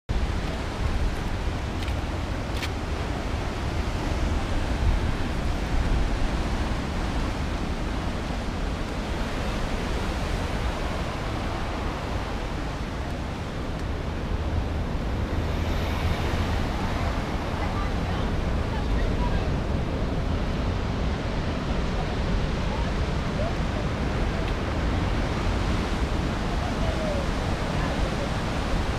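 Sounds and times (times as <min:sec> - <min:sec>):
wind noise on microphone: 0:00.1 - 0:28.9.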